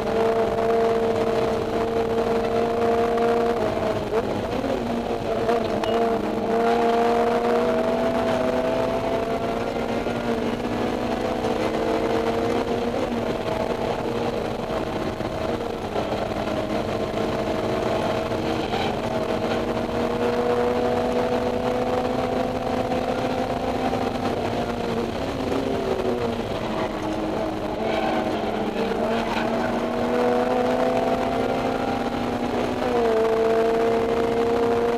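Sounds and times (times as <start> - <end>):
car engine at high revs: 0.0 - 34.9.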